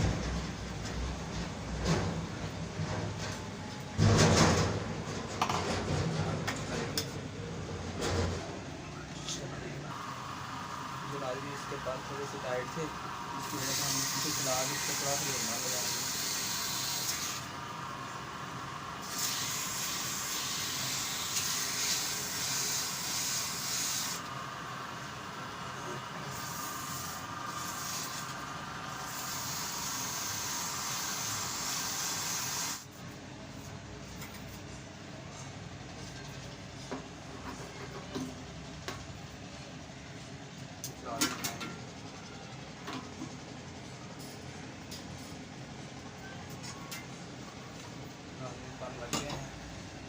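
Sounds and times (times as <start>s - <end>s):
pedestal fan blades hissing: 9.4s - 50.0s.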